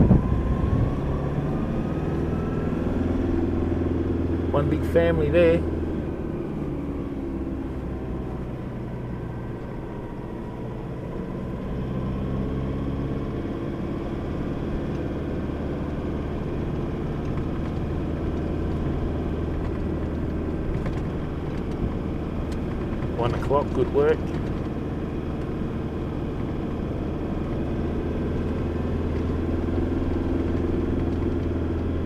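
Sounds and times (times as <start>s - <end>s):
low road rumble: 0.0s - 32.0s
vehicle engine running: 0.0s - 32.0s.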